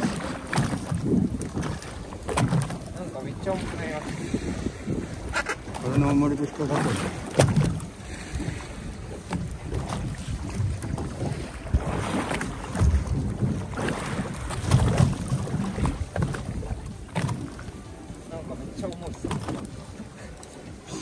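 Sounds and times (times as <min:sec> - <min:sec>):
boat and water knocks: 0:00.0 - 0:21.0
wind buffeting microphone: 0:00.0 - 0:21.0.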